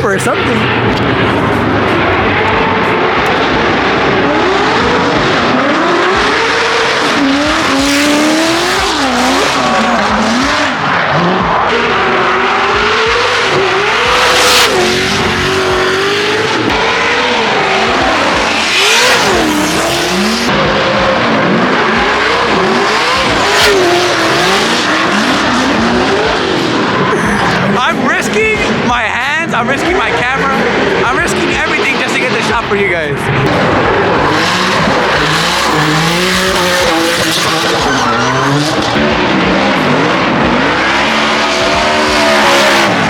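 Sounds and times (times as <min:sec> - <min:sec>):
car engines revving hard: 0:00.0 - 0:43.0
tires squealing: 0:00.0 - 0:43.0.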